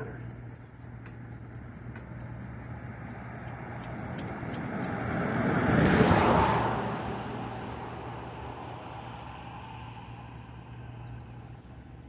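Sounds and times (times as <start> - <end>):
vehicle passing by: 1.8 - 12.0.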